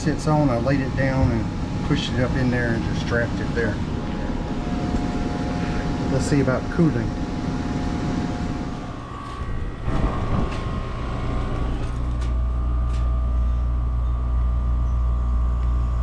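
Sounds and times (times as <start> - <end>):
faint air handler hum: 0.0 - 16.0
heat pump hum: 0.0 - 16.0.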